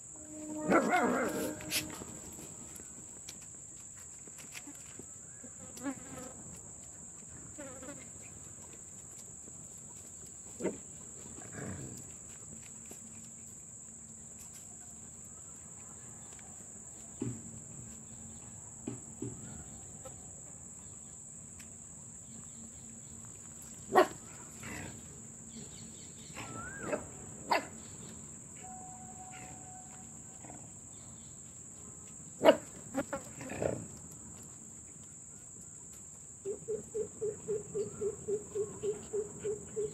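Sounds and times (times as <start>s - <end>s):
crickets chirring: 0.0s - 15.4s, 16.1s - 39.9s.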